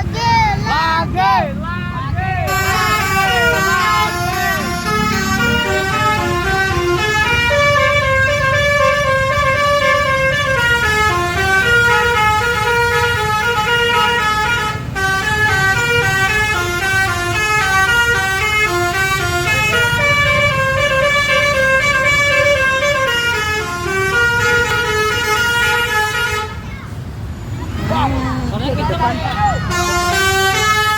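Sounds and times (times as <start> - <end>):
musical bus horn tune: 2.5 - 26.6, 29.3 - 30.9.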